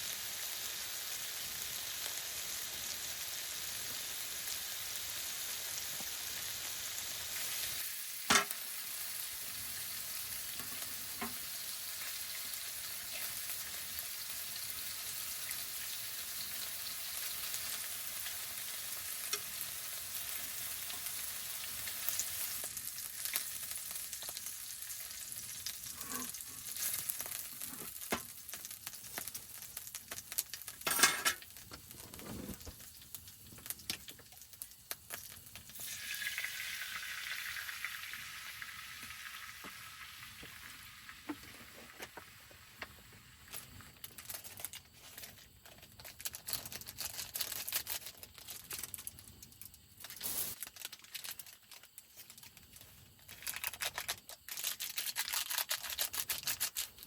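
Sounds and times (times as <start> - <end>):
food sizzling in a pan: 0.0 - 49.3, 50.0 - 57.0.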